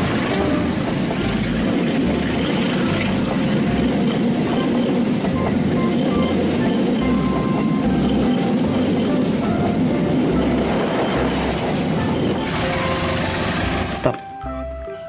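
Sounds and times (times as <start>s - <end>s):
train wheels rumbling on rails: 0.0s - 14.1s
wheels clacking over rail joints: 0.0s - 14.4s.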